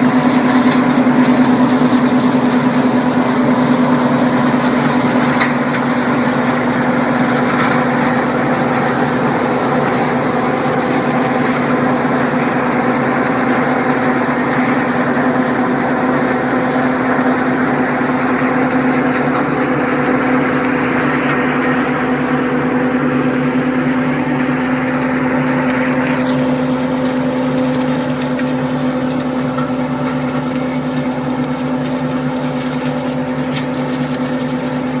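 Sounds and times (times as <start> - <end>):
constant noisy rush: 0.0 - 35.0
grape harvester engine running: 0.0 - 35.0.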